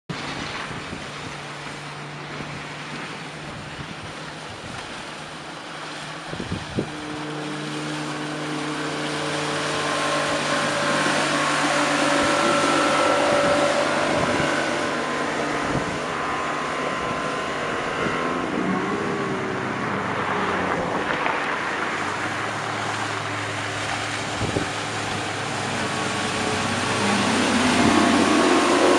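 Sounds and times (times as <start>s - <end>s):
outboard motor droning: 0.1s - 28.9s.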